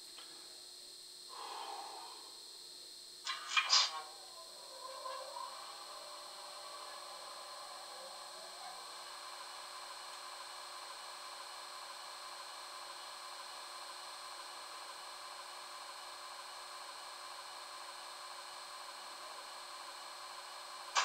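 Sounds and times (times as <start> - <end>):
model train motor hum: 1.3 - 21.0.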